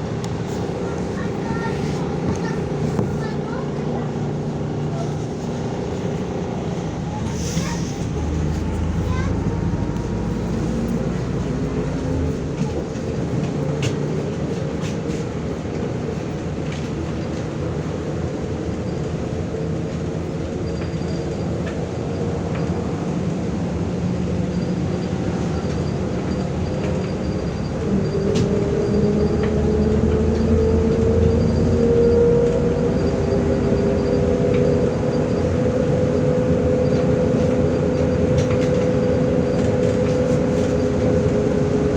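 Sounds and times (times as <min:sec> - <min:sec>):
bus engine and road drone: 0:00.0 - 0:41.9.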